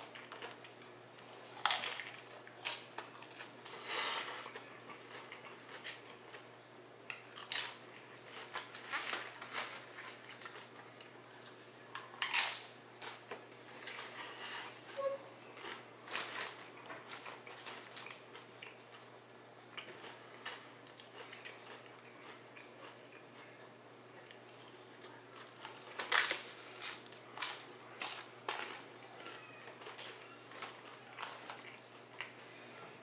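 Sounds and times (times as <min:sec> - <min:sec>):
person crunching tortilla chips: 0:00.0 - 0:06.5, 0:07.1 - 0:14.8, 0:15.5 - 0:19.1, 0:19.7 - 0:23.5, 0:25.3 - 0:32.4.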